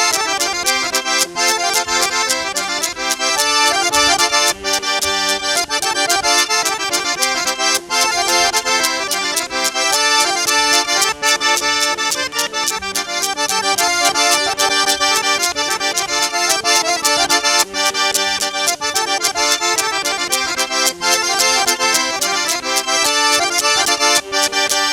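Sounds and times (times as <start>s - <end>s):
accordion: 0.0s - 24.9s.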